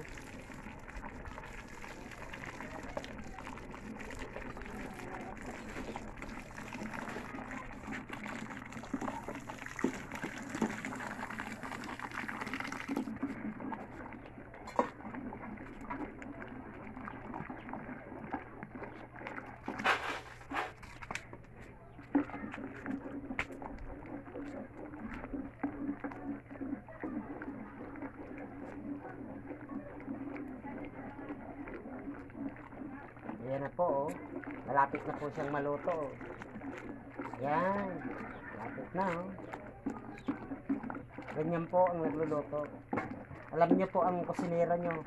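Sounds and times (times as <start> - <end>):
broth bubbling: 0.0 - 45.0
metal ladle stirring: 0.2 - 45.0.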